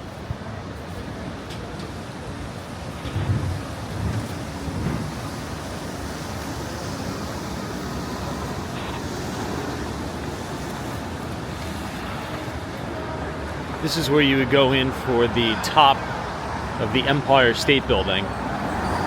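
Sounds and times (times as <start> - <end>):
street traffic going by: 0.0 - 19.0.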